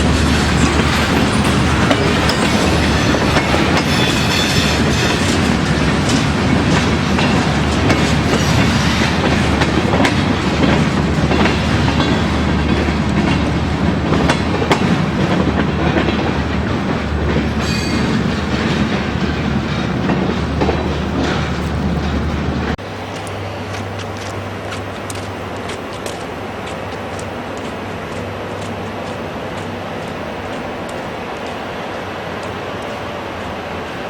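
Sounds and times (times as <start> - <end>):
train rumbling past: 0.0 - 34.0
wheels clacking over track: 0.0 - 34.0.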